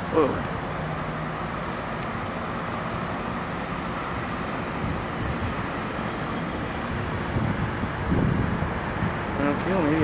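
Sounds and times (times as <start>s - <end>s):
diesel locomotive rumble: 0.0s - 10.0s.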